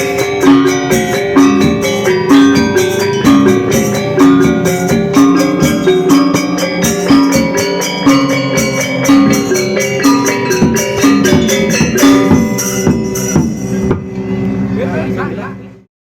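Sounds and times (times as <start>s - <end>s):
drumming: 0.0s - 14.3s
metallophones ringing: 0.0s - 15.9s.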